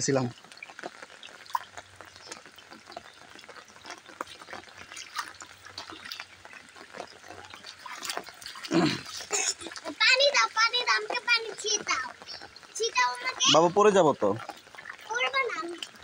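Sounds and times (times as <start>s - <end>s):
rain pattering on concrete: 0.0s - 16.0s
bare feet splashing in water: 0.4s - 16.0s.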